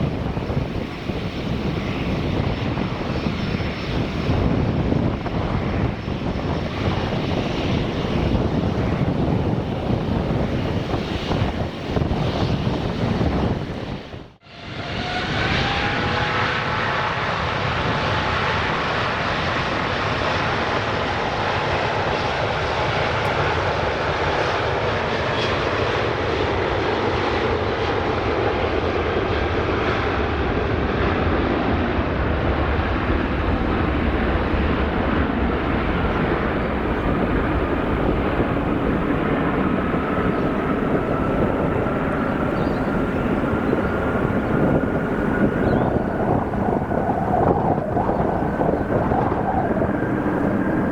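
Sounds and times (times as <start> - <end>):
jet engine roar: 0.0 - 50.9
jet engine whine: 0.0 - 50.9.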